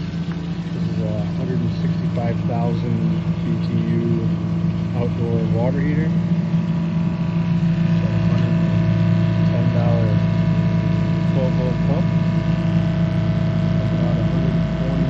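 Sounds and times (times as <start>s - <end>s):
water pump humming: 0.0s - 15.0s.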